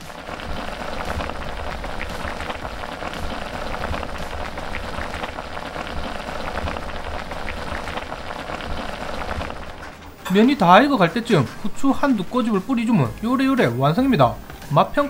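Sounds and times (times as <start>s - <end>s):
pot boiling with bubbling and popping: 0.0s - 15.0s.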